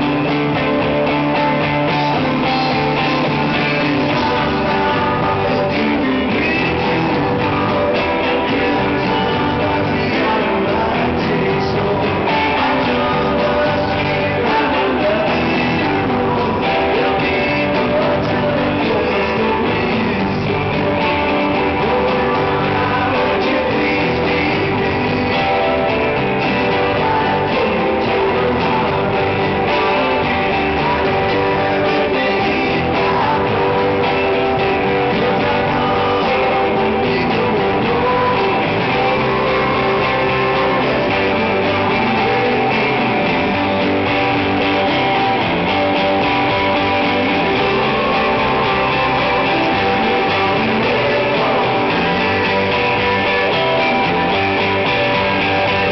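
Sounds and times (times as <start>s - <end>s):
man singing: 0.0s - 55.9s
rock band playing: 0.0s - 55.9s.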